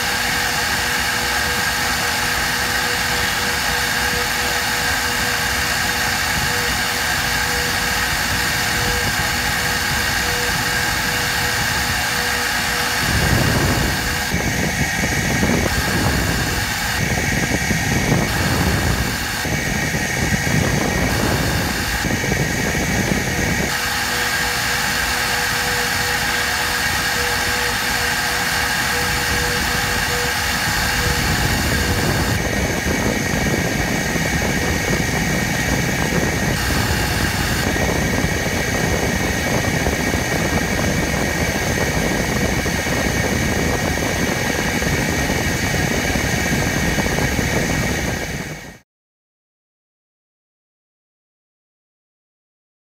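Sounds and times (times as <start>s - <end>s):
cutter hissing on metal: 0.0s - 48.6s
milling spindle whine: 0.0s - 48.8s.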